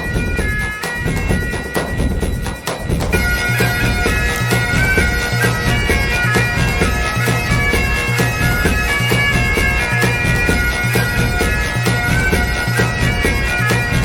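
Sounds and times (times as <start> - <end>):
drum beat: 0.0 - 14.0
wind instrument melody: 0.0 - 14.0.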